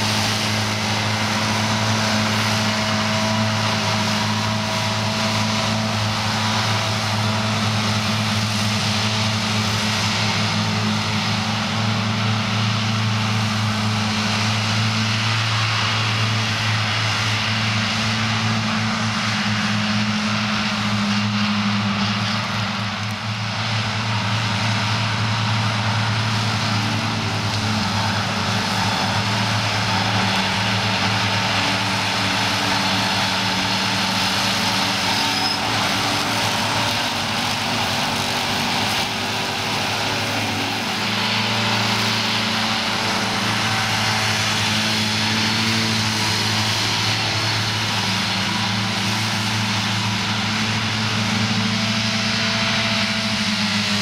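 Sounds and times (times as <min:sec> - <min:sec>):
grass mowers whirring: 0:00.0 - 0:54.0
tractor diesel engines: 0:00.0 - 0:54.0.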